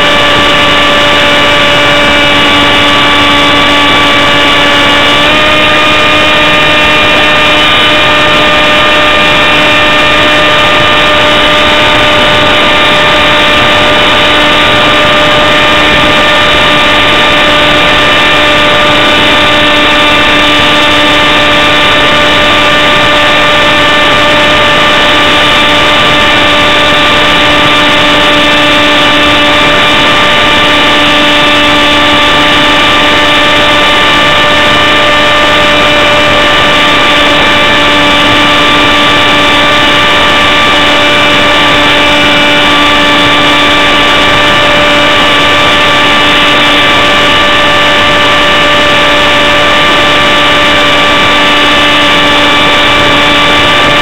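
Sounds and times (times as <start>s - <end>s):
model jet motor whine: 0.0s - 54.0s
rushing air: 0.0s - 54.0s.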